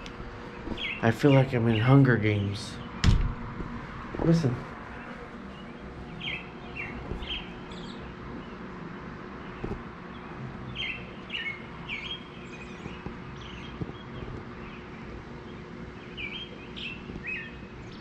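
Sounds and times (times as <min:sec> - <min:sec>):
birds calling with echo: 0:00.0 - 0:18.0
steady low hum: 0:00.0 - 0:18.0.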